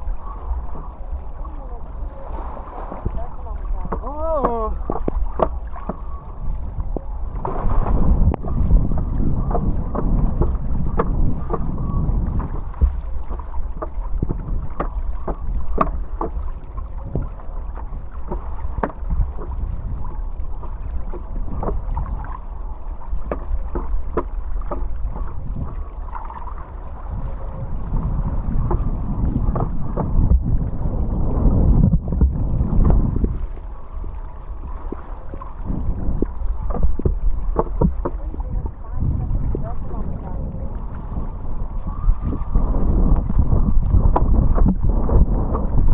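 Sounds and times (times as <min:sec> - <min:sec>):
water rushing and splashing: 0:00.0 - 0:45.9
wind buffeting microphone: 0:00.0 - 0:45.9.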